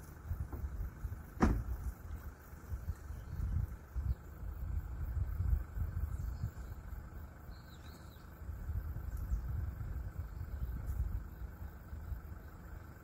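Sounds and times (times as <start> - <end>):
faint bird chirps: 0.0 - 13.0
low outdoor rumble: 0.0 - 13.0.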